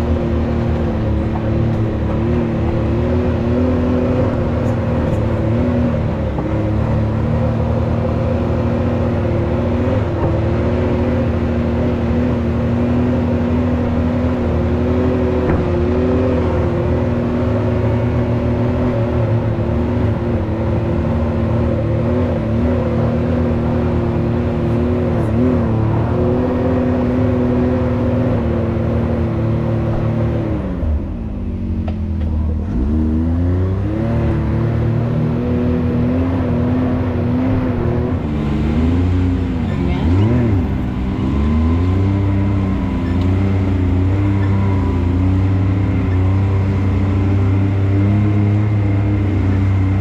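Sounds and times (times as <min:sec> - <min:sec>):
off-road vehicle engine running: 0:00.0 - 0:50.0.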